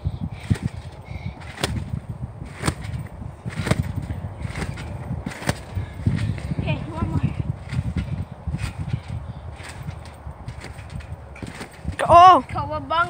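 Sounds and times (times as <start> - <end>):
low rumble: 0.0 - 12.9
trampoline springs snapping: 0.0 - 13.0.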